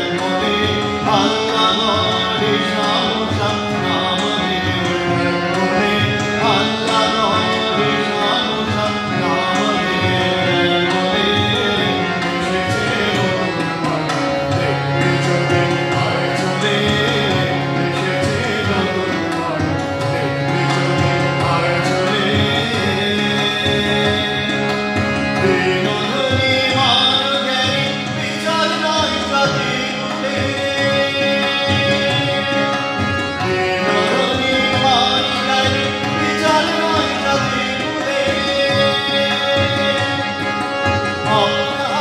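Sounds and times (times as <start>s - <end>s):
harmonium chords and melody: 0.0s - 42.0s.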